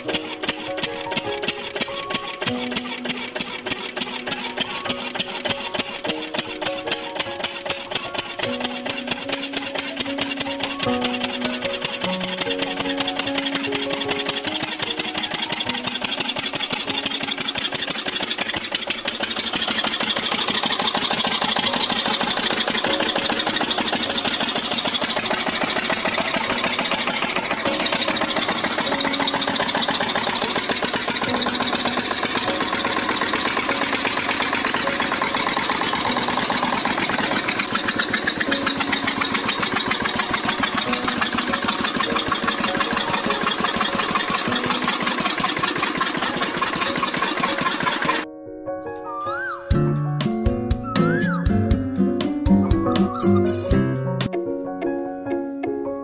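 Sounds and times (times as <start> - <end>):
diesel pump engine idling: 0.0 - 48.3.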